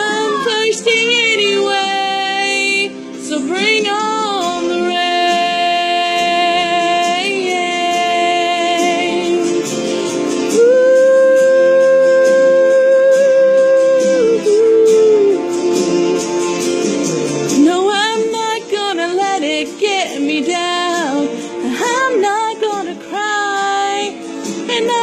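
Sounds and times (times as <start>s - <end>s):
woman singing wordless notes: 0.0s - 9.8s, 10.5s - 16.2s, 17.6s - 25.0s
country backing track: 0.0s - 25.0s.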